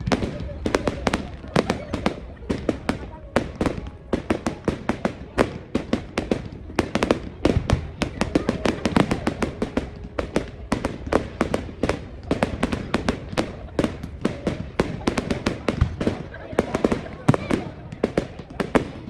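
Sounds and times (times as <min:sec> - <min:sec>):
faint crowd voices: 0:00.0 - 0:19.0
fireworks bangs and crackles: 0:00.0 - 0:19.0.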